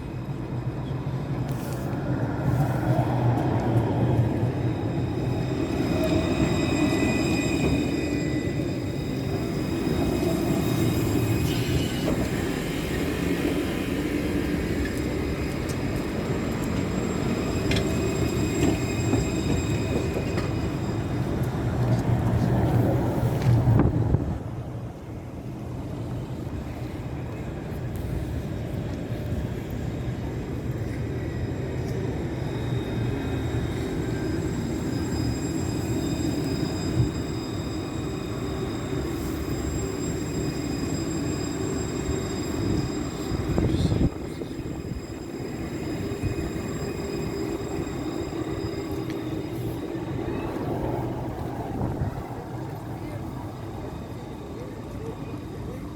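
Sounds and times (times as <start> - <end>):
tram rumbling on rails: 0.0 - 55.9.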